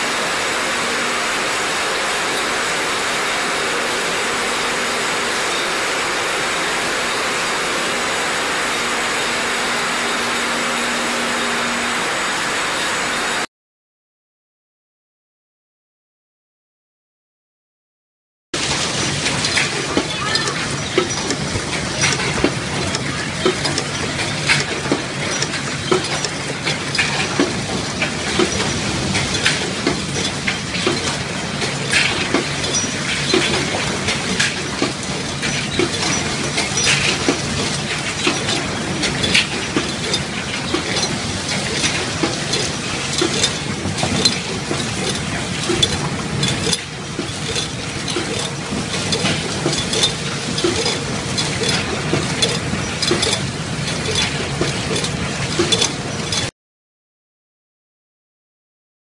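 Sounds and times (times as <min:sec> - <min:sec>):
packaging machinery clattering: 0:00.0 - 0:13.4, 0:18.6 - 0:56.5.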